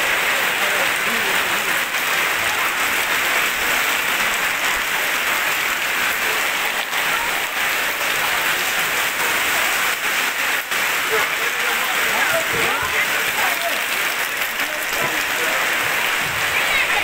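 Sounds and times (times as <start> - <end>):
heavy rain on fabric canopy: 0.0 - 17.0.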